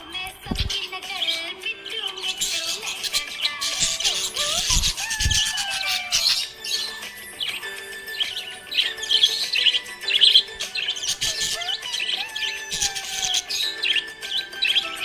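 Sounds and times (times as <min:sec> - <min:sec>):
background music: 0:00.0 - 0:15.0
budgerigar chirping and warbling: 0:00.0 - 0:15.0.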